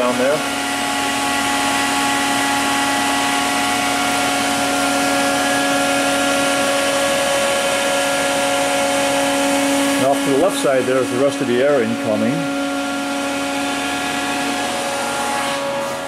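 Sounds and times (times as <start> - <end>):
electrical cabinet hum and whir: 0.0 - 16.0.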